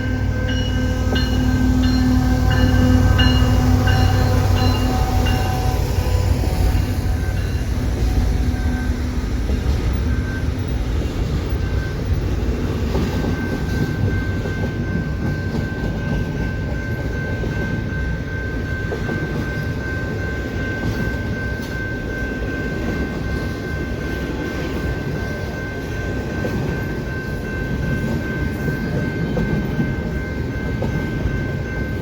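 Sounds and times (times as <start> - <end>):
high ringing tone: 0.0 - 32.0
train wheels rumbling on rails: 0.0 - 32.0.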